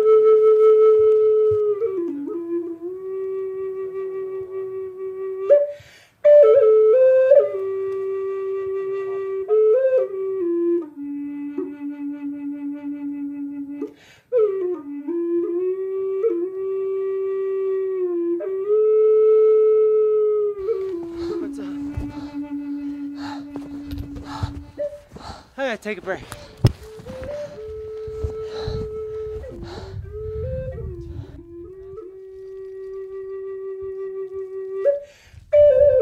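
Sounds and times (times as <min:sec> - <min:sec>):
solo flute melody: 0:00.0 - 0:36.0.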